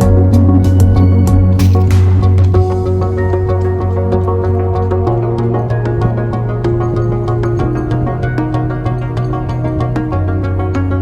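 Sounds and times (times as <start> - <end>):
faint ticking beat: 0.0 - 11.0
held synth notes: 0.0 - 11.0
steady bass: 0.0 - 11.0.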